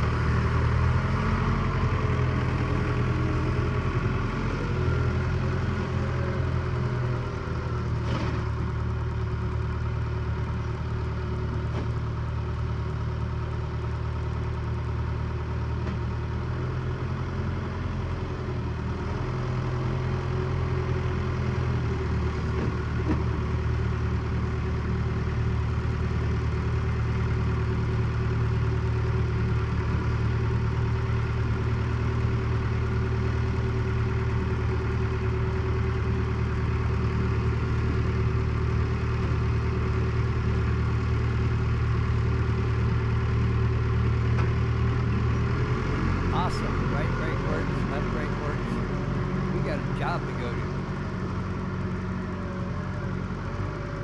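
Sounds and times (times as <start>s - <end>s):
backhoe diesel engine running: 0.0s - 54.0s.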